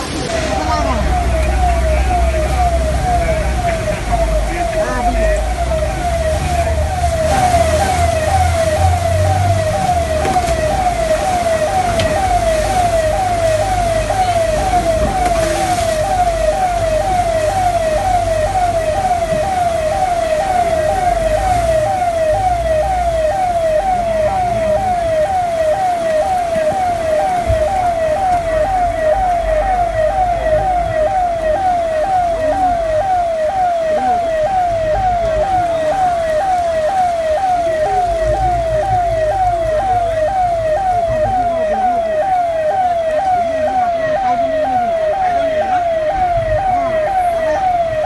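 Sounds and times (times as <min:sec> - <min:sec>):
electronic siren falling tone: 0:00.0 - 0:48.0.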